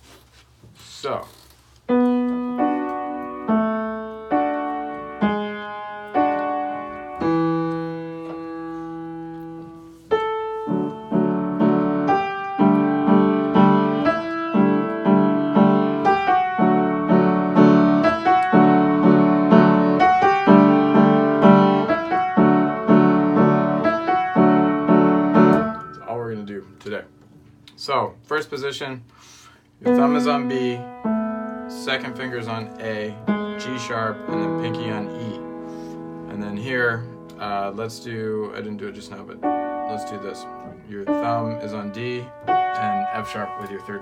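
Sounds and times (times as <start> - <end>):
piano playing: 1.9 - 27.6, 29.8 - 44.0.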